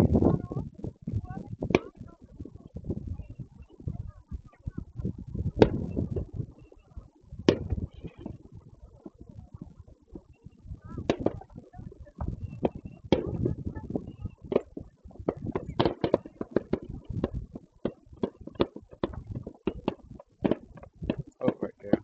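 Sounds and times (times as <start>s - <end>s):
fireworks bangs and pops: 0.0s - 22.0s
low rumbling: 0.0s - 22.0s.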